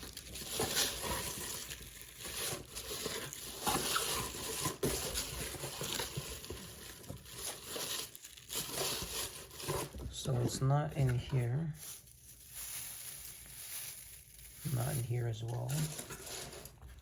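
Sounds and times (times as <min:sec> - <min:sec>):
rustling of packing material: 0:00.0 - 0:17.0.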